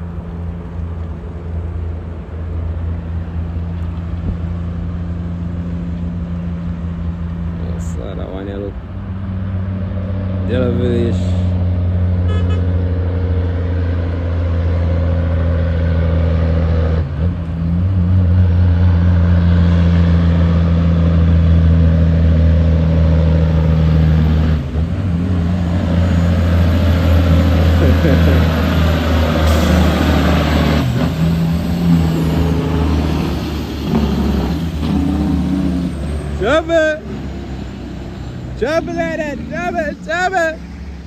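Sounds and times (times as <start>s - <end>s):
truck diesel engine drone: 0.0s - 41.0s.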